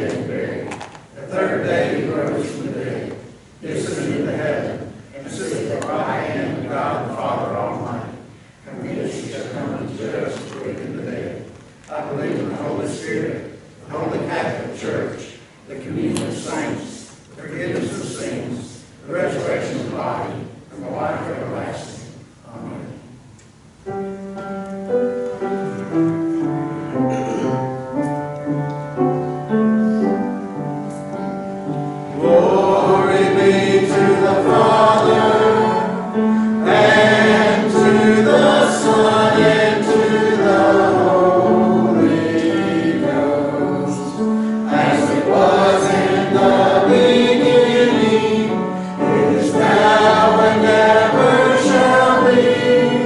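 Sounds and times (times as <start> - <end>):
congregation singing a hymn: 0.0 - 23.2, 23.9 - 53.0.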